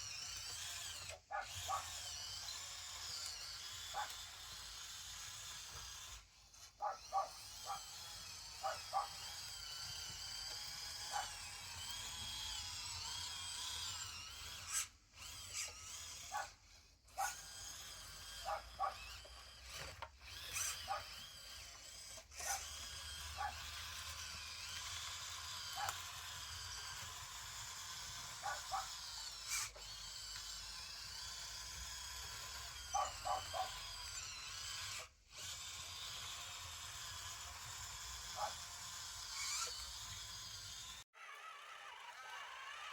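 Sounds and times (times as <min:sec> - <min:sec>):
small electric motors whining: 0:00.0 - 0:42.9.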